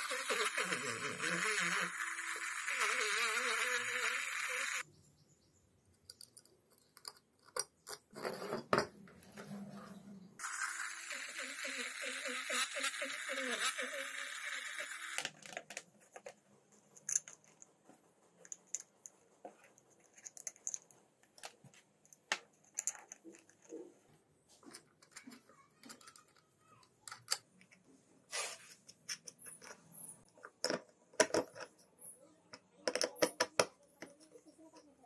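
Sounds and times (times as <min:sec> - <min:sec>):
small parts and tools clicking: 0:00.0 - 0:04.8, 0:06.0 - 0:08.6, 0:10.4 - 0:23.9, 0:24.6 - 0:27.8, 0:28.8 - 0:34.9.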